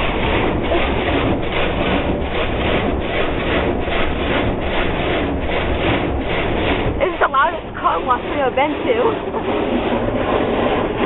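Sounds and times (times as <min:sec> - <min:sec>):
car wash brushes scrubbing: 0:00.0 - 0:11.0.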